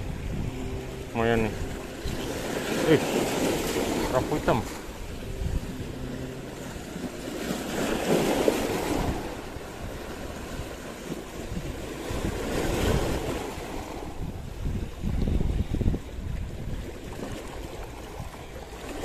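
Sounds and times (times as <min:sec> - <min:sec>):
waves washing over rocks: 0:00.0 - 0:19.0
wind on microphone: 0:00.0 - 0:19.0.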